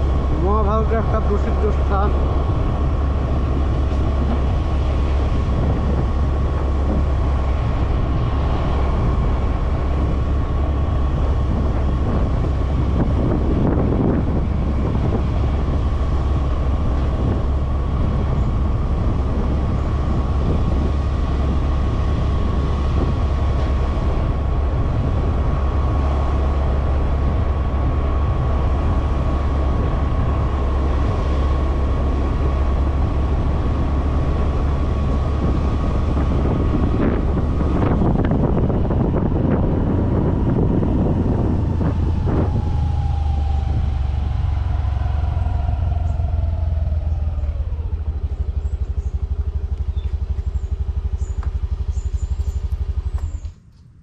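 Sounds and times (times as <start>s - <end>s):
thin steady whine: 0.0s - 54.0s
vehicle engine and road rumble: 0.0s - 54.0s.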